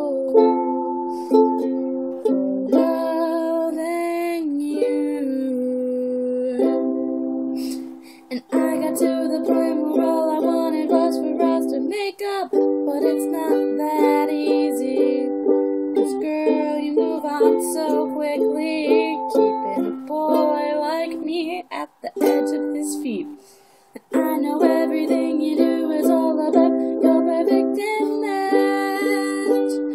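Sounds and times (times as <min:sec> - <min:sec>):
ukulele strumming chords: 0:00.0 - 0:29.9.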